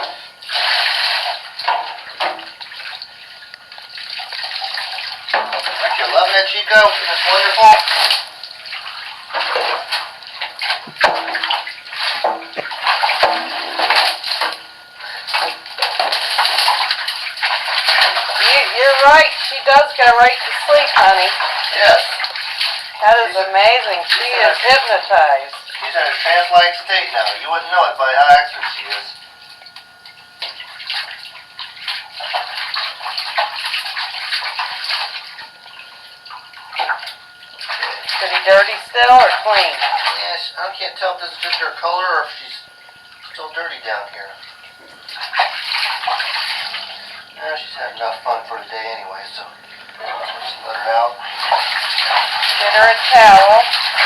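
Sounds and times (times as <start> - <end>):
water running and splashing: 0.3 - 27.6, 28.4 - 40.3, 44.4 - 48.4, 49.5 - 54.0.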